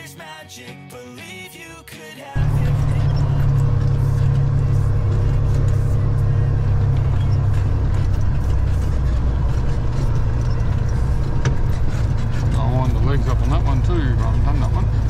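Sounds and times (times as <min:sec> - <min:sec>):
truck diesel engine running: 0:02.4 - 0:15.0.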